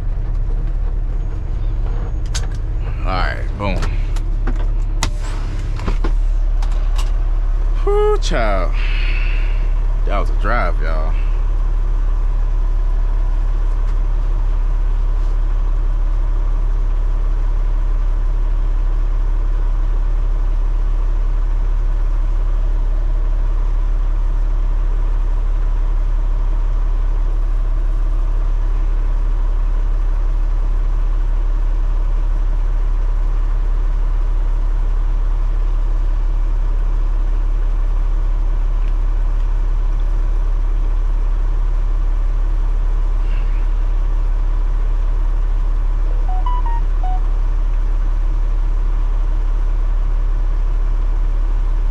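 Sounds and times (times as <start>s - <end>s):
truck diesel engine idling: 0.0s - 51.9s.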